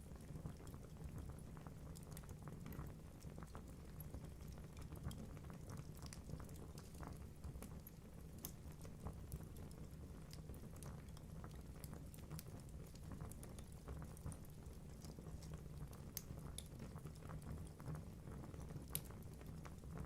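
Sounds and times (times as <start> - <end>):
logs crackling and popping: 0.2 - 20.0.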